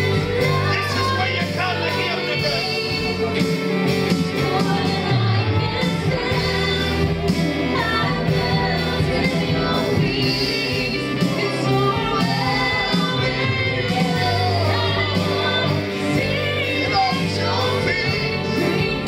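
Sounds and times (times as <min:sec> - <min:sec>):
people singing: 0:00.0 - 0:19.0
worship band music: 0:00.0 - 0:19.0.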